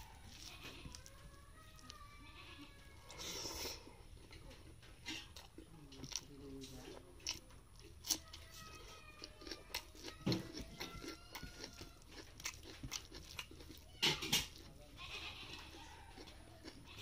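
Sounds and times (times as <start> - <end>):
fingers mixing rice on steel plate: 0.0 - 17.0
wet chewing and mouth clicks: 0.0 - 17.0.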